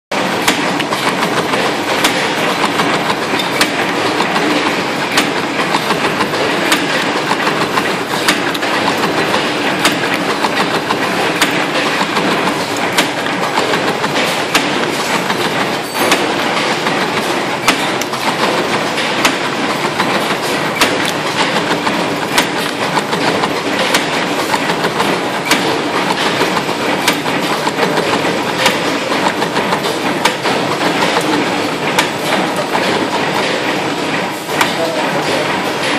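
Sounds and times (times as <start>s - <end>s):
wire-forming machine clatter: 0.1s - 35.9s
sharp metallic clicks: 0.4s - 35.9s.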